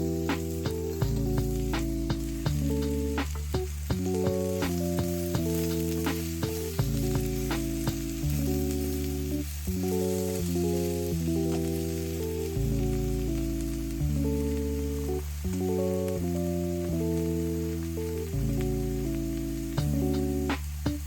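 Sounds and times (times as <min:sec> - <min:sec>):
food sizzling in a pan: 0:00.0 - 0:21.0
music with deep bass line: 0:00.0 - 0:21.0.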